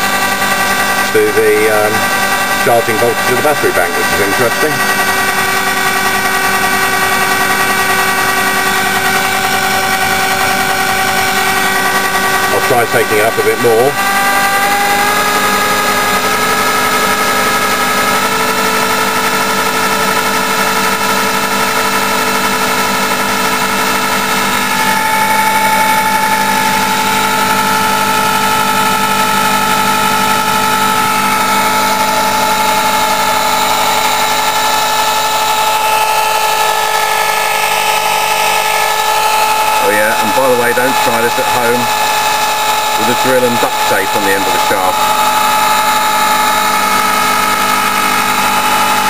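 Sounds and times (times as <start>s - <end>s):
electric drill whining: 0.0s - 49.0s.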